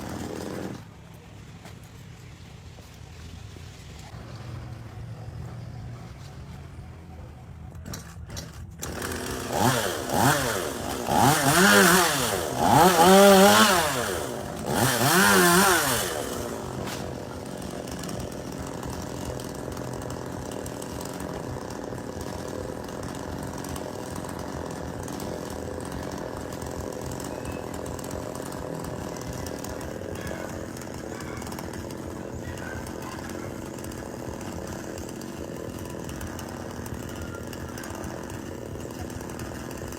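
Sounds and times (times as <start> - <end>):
chainsaw engine revving: 0.0 - 0.9, 7.8 - 39.9.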